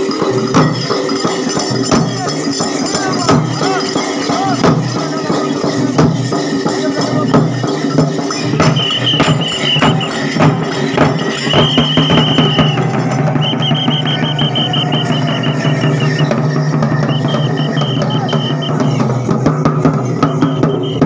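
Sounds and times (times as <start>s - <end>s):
drums in steady rhythm: 0.0s - 21.0s.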